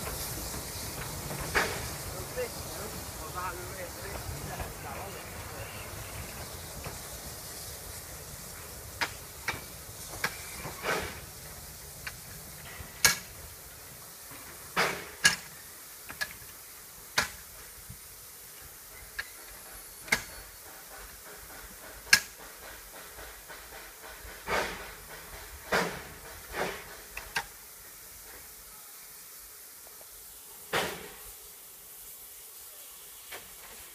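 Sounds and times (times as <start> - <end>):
short bursts of steam: 0.0 - 33.9
steady steam hiss: 0.0 - 33.9.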